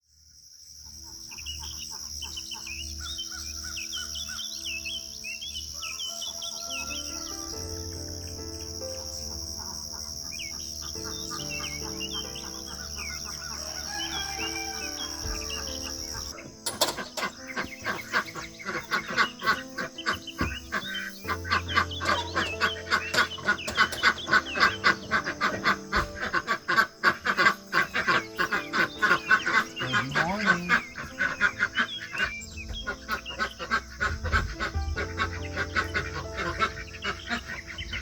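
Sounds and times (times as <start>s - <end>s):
insects trilling: 0.0s - 38.0s
small birds chirping: 0.1s - 38.0s
poultry clucking and honking: 5.6s - 8.0s, 9.1s - 38.0s.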